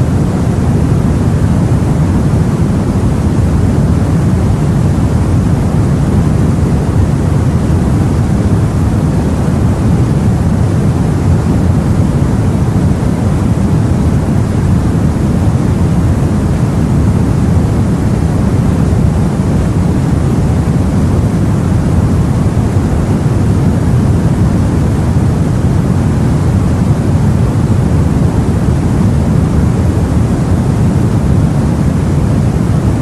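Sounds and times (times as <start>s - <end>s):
sea and wind: 0.0s - 33.0s.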